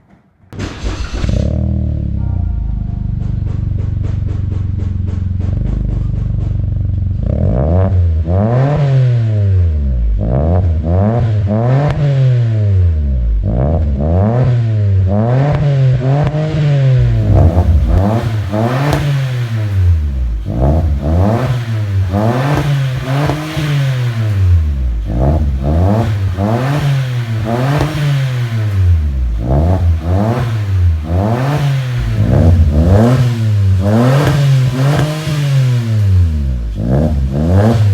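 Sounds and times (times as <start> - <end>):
car engine idling and revving: 0.6 - 37.9.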